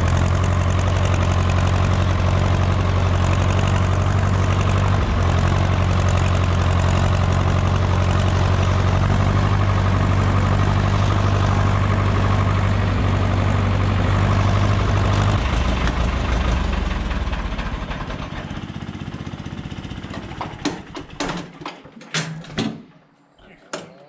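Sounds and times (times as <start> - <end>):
diesel tractor engine running: 0.0 - 21.6.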